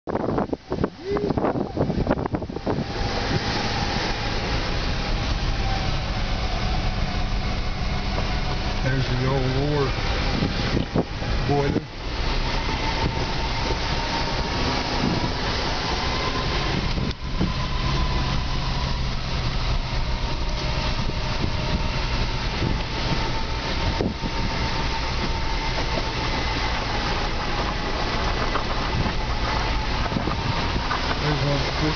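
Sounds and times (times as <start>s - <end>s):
vehicle engine rumble: 0.1s - 31.9s
tyres on gravel: 2.7s - 31.9s.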